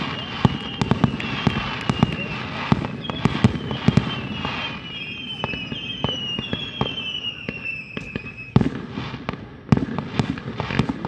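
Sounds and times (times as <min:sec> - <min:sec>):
firework whistles falling in pitch: 0:00.0 - 0:08.9
distant firework bangs and crackles: 0:00.0 - 0:11.0.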